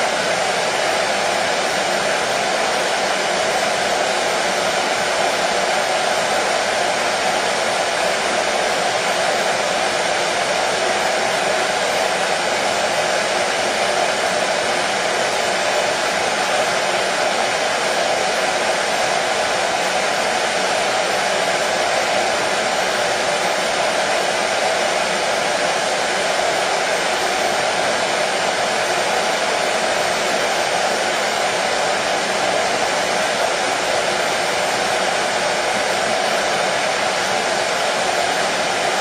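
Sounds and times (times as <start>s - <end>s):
hair dryer blowing: 0.0s - 39.0s.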